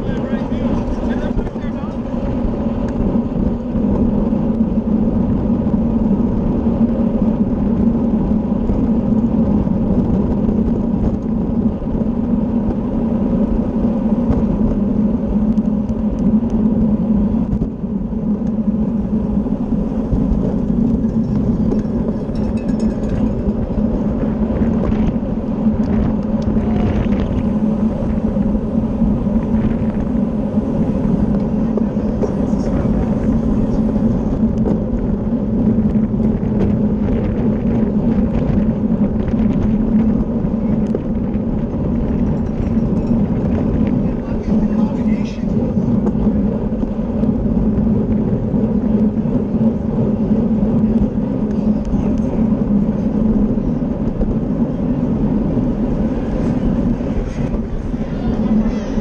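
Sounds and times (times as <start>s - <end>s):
steady low hum: 0.0s - 59.0s
tyre and road noise: 0.0s - 59.0s
wind rushing over microphone: 0.0s - 59.0s.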